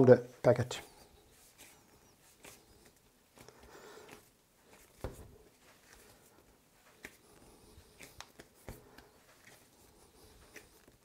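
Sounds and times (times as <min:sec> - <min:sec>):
hands kneading fondant: 0:00.2 - 0:11.0.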